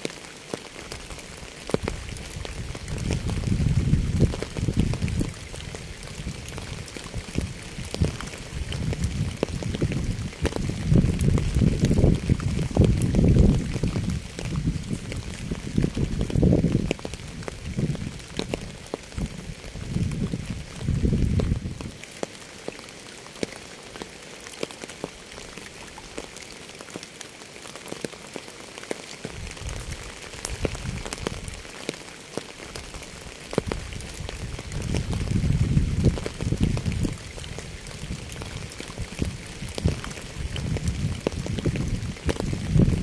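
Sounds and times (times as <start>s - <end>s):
rain patter: 0.0s - 43.0s.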